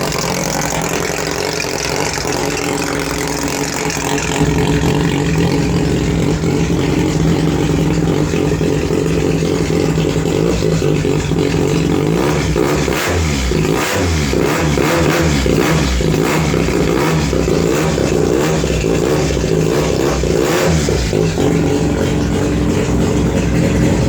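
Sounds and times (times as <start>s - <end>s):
race car engine revving and idling: 0.0s - 24.0s.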